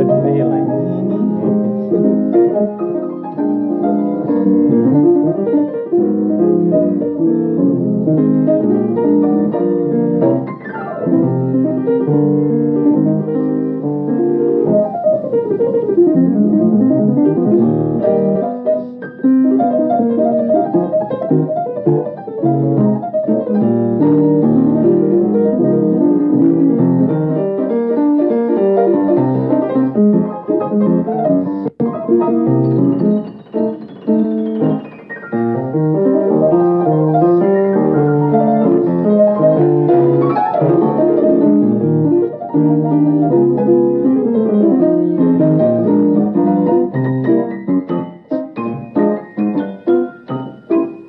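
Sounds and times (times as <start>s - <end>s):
jazz piano: 0.0s - 51.0s.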